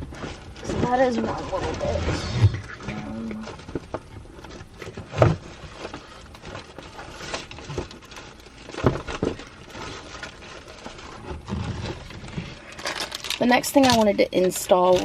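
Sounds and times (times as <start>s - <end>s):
small objects clicking and rustling: 0.0s - 15.0s.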